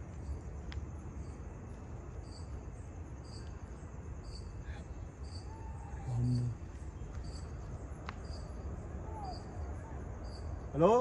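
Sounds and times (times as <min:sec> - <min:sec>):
high insect drone: 0:00.0 - 0:11.0
insect chirping: 0:00.0 - 0:11.0.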